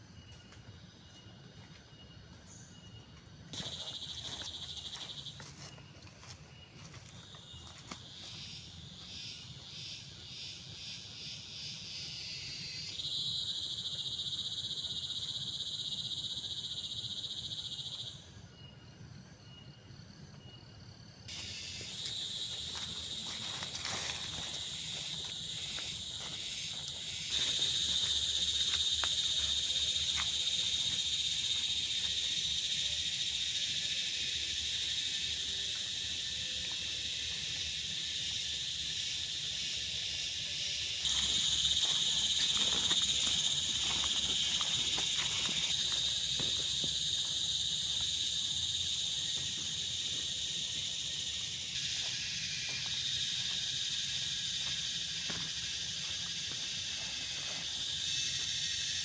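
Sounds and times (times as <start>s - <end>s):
insects chirring drone: 0.0s - 59.0s.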